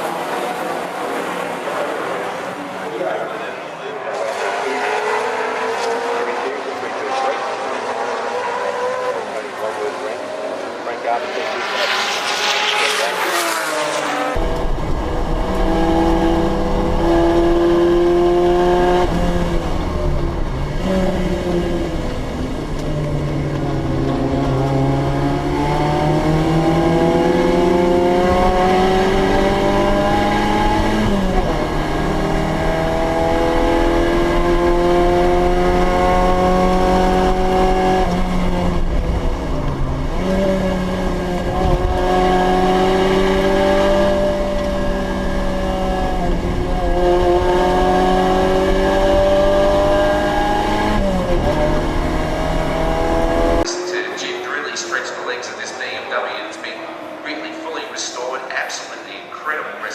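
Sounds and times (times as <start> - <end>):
racing car engine revving through gears: 4.0 - 59.9.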